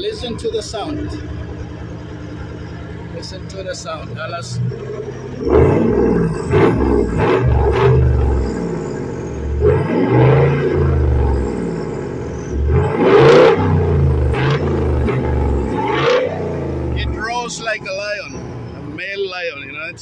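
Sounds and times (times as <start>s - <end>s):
pickup engine revving: 0.0s - 20.0s.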